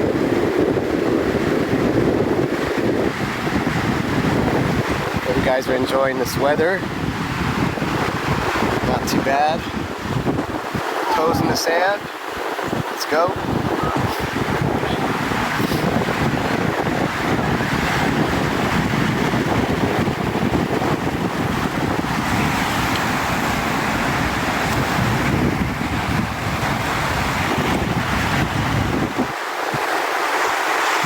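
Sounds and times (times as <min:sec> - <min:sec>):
ocean surf: 0:00.0 - 0:31.0
wind rumble on microphone: 0:00.0 - 0:31.0.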